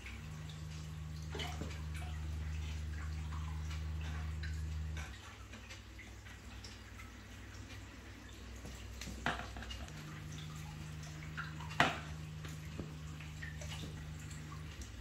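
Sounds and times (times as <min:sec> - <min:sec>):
low pump hum: 0:00.0 - 0:15.0
moving water: 0:00.0 - 0:15.0
second steady hum: 0:00.0 - 0:15.0
sharp drip-like clicks: 0:00.0 - 0:15.0.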